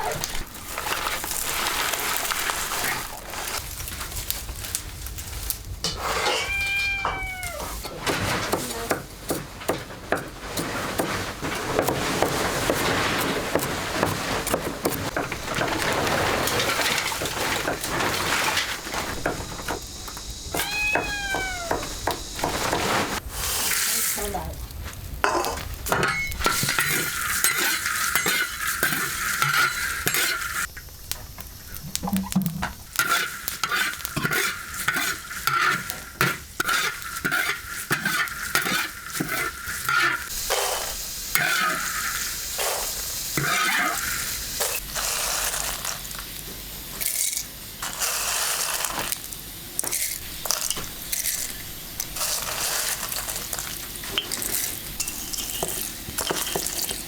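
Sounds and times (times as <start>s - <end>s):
utensil scraping a pan: 0.0s - 3.8s, 5.8s - 24.3s, 25.3s - 30.7s, 32.9s - 45.8s, 49.8s - 57.0s
food sizzling in a pan: 0.0s - 8.0s, 10.2s - 57.0s.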